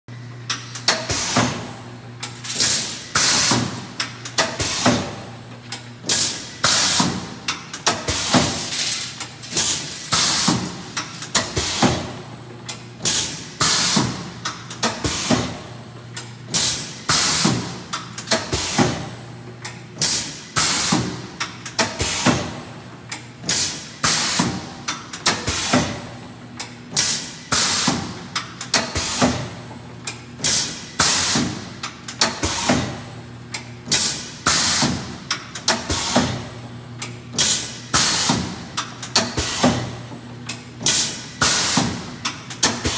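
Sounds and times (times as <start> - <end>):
low machine hum: 0.1 - 42.9.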